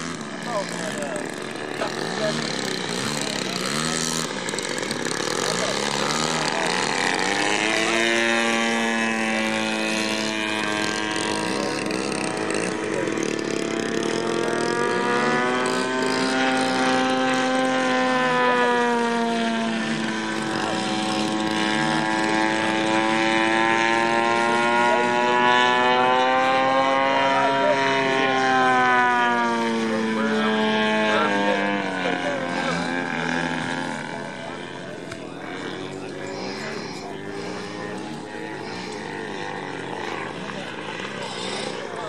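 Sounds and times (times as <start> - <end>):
model plane engine drone: 0.0 - 42.0.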